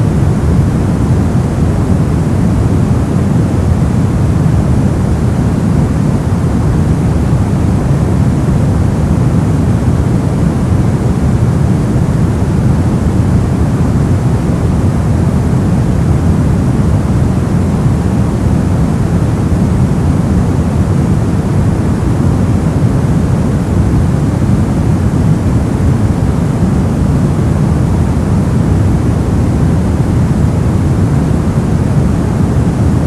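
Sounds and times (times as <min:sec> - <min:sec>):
brown noise: 0:00.0 - 0:33.0.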